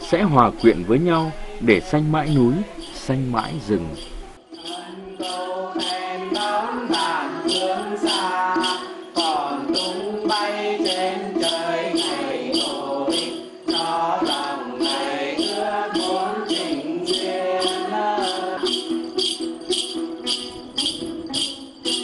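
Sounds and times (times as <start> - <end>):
flowing melody: 0.0 - 22.0
jingling percussion shaker: 0.0 - 22.0.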